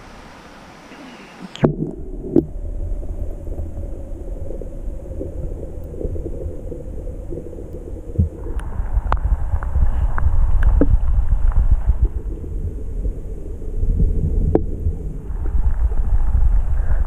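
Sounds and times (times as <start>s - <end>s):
muffled underwater river rumble: 0.0s - 17.0s.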